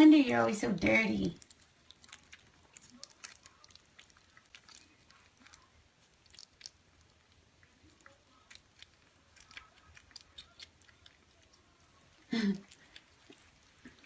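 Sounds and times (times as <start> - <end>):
kittens chewing and smacking: 0.7 - 14.0.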